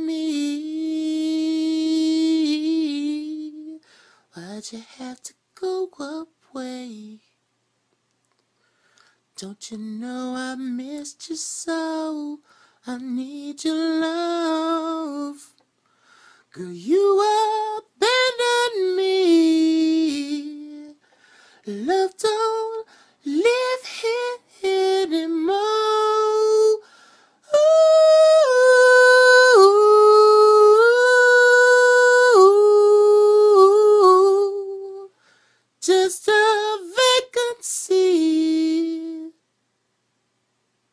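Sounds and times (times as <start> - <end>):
man singing a cappella: 0.0 - 7.3, 9.4 - 15.6, 16.5 - 35.2, 35.8 - 39.4.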